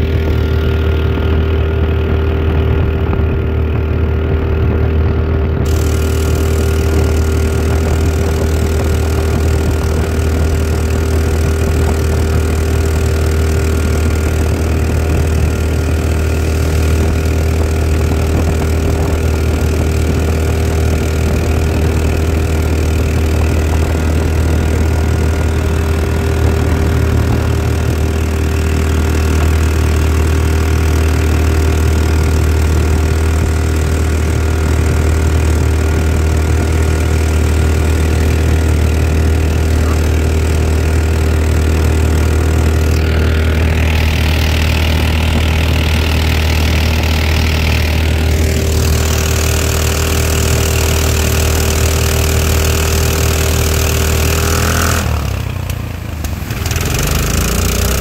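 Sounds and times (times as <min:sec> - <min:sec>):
boat motor running: 0:00.0 - 0:58.0.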